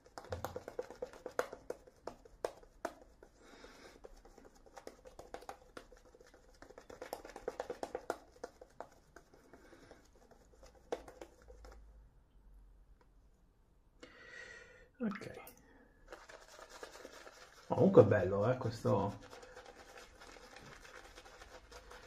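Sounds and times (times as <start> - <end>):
shaving brush squishing lather: 0.0 - 11.9, 16.1 - 22.0.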